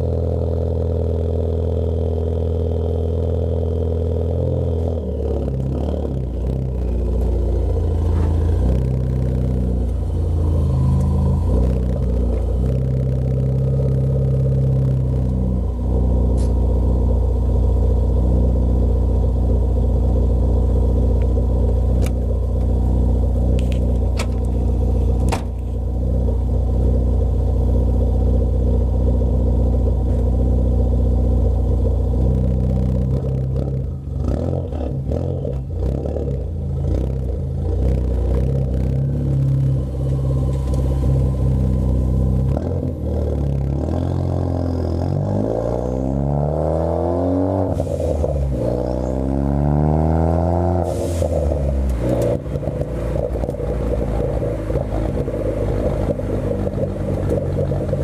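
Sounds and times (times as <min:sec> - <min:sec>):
car engine driving: 0:00.0 - 0:58.0.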